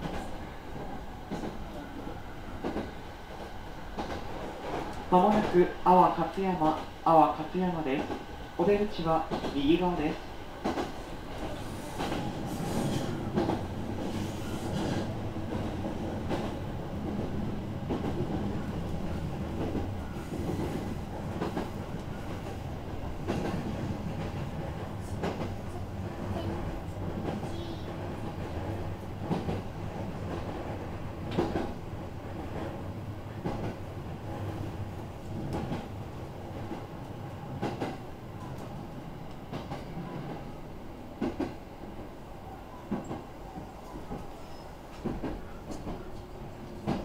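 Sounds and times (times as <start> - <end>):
rail joints clacking: 0.0 - 41.7, 42.8 - 47.0
train wheels rumbling on rail: 0.0 - 47.0.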